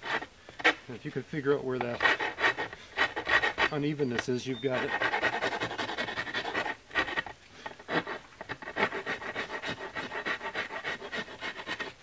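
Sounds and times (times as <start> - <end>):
blade shaving wood: 0.0 - 12.0.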